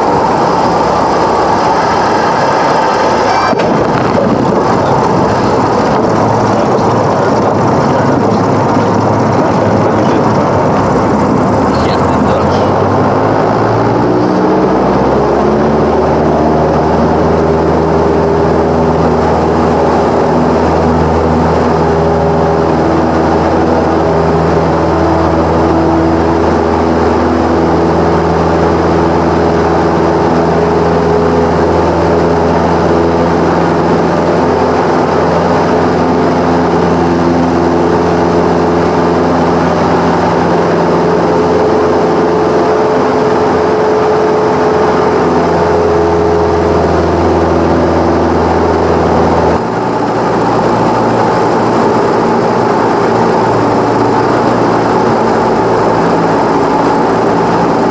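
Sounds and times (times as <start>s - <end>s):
propeller plane engine running: 0.0s - 57.9s.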